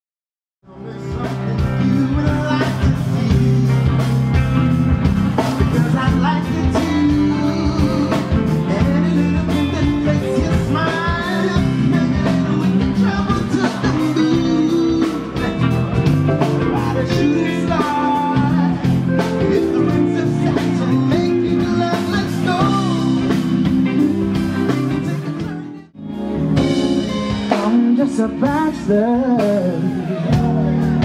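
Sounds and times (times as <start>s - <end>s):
drums: 0.6s - 31.0s
keyboard: 0.6s - 31.0s
man singing lead vocal: 0.7s - 4.7s, 5.4s - 24.0s, 24.6s - 25.9s, 27.3s - 31.0s
electric guitar: 0.7s - 31.0s.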